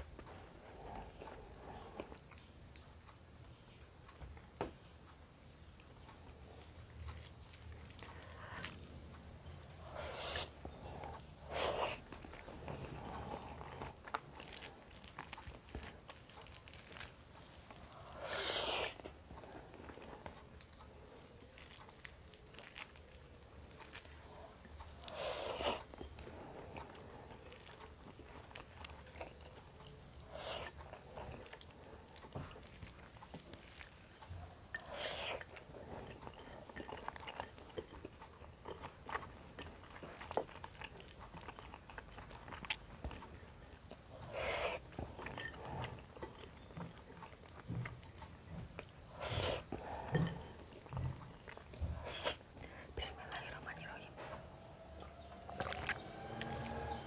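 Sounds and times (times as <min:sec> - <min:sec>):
person chewing: 0:05.7 - 0:57.0.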